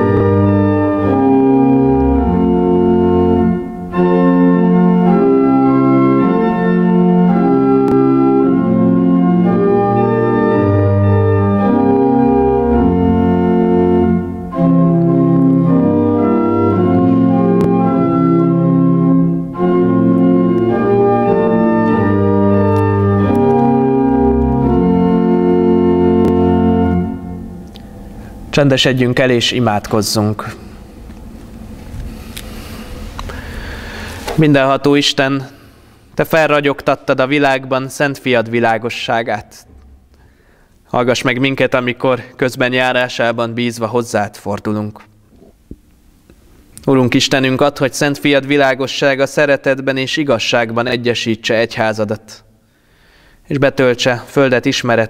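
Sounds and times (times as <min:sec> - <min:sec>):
church organ chords: 0:00.0 - 0:44.4.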